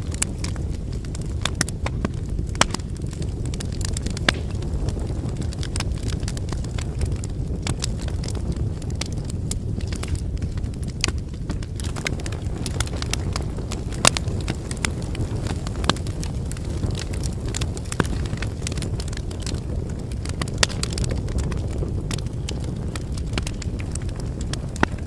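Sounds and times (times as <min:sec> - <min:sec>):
firewood crackling and popping: 0:00.0 - 0:25.0
low rumble of flames: 0:00.0 - 0:25.0.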